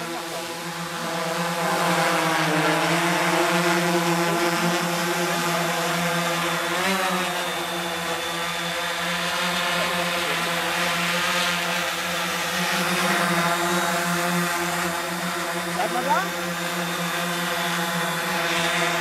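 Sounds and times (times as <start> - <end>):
drone motors and propellers: 0.0 - 19.0.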